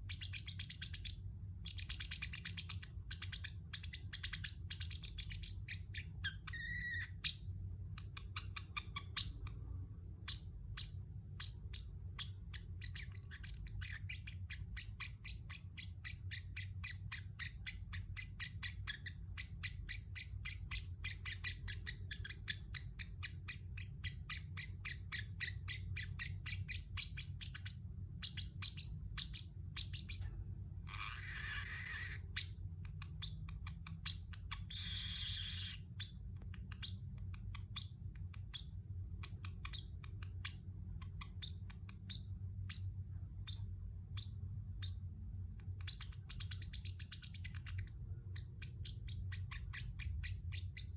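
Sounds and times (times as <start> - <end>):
bird chirping rapidly: 0.0 - 9.6, 10.2 - 30.3, 30.9 - 45.1, 45.7 - 50.9
steady low hum: 0.0 - 50.9.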